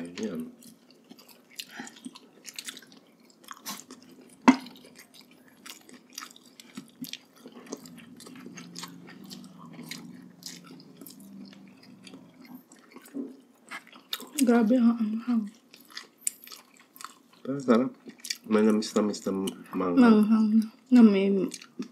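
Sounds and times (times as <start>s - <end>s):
people chewing meat: 0.0s - 21.9s.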